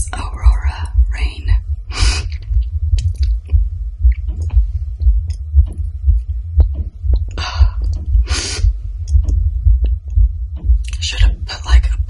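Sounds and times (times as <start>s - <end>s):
amplified heartbeat thumps: 0.0s - 12.0s.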